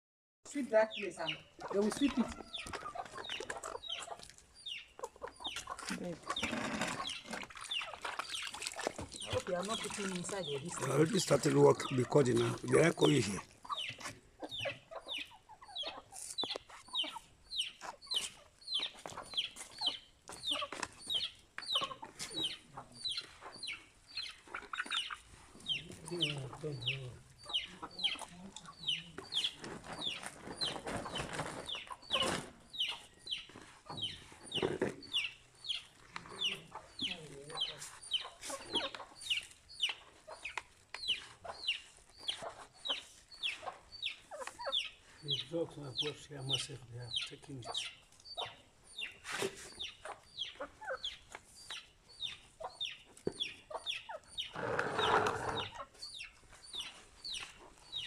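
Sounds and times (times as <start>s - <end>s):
chickens cheeping: 0.7s - 58.0s.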